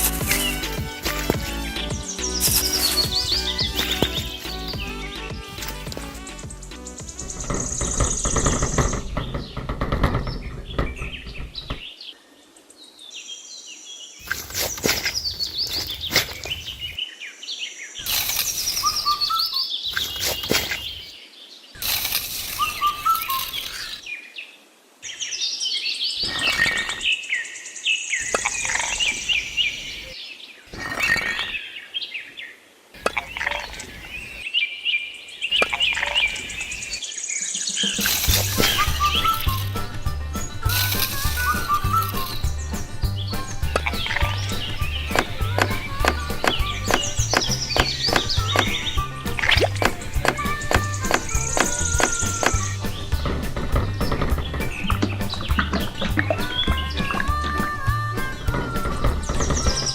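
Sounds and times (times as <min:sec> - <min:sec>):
background noise: 0:00.0 - 0:56.2
birds chirping: 0:00.0 - 0:59.9.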